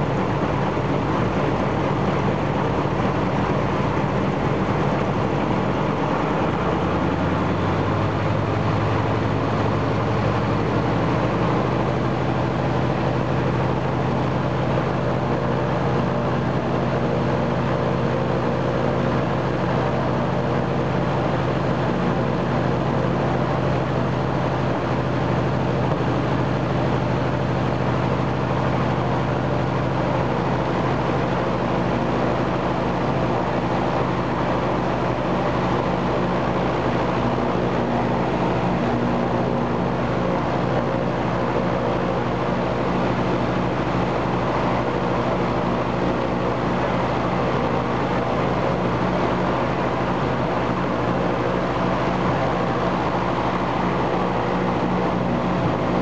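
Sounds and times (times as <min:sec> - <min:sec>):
radial piston engine running: 0:00.0 - 0:56.0.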